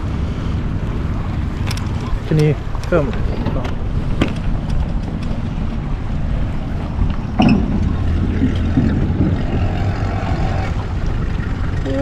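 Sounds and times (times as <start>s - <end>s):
low engine hum: 0.0s - 12.0s
wind on microphone: 0.0s - 12.0s.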